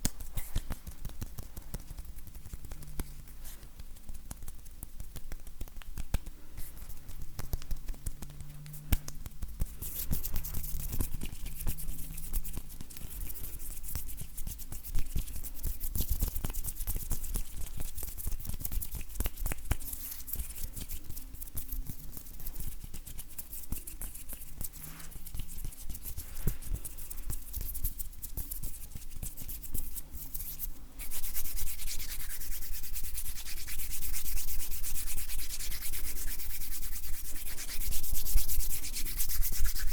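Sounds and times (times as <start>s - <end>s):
hands rubbing together: 0.0s - 39.9s.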